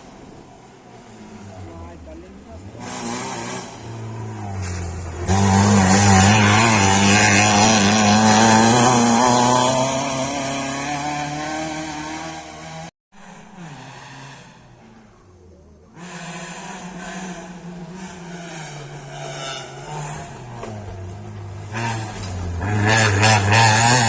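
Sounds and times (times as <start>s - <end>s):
rally car engine at high revs: 0.0s - 24.0s.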